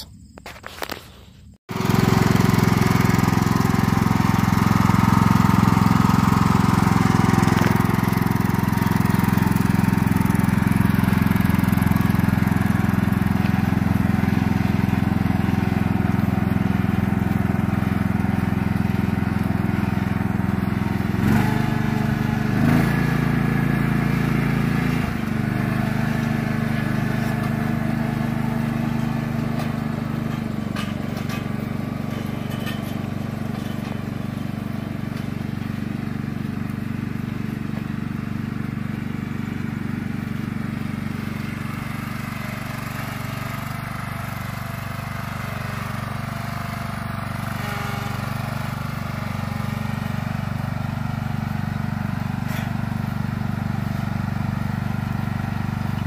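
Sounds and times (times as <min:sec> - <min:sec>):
small petrol engine running: 0:01.7 - 0:56.0.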